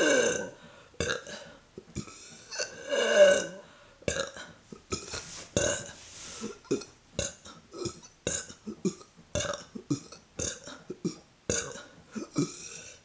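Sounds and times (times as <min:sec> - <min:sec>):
woman burping: 0:00.0 - 0:05.0, 0:06.7 - 0:13.0.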